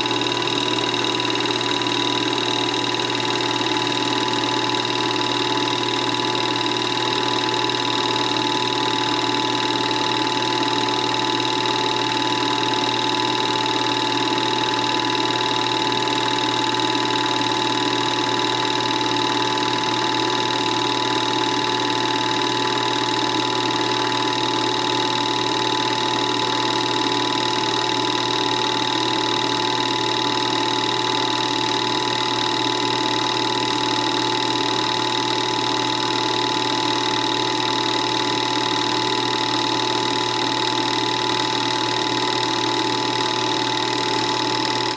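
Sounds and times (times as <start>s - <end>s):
film projector whirring: 0.0s - 44.9s.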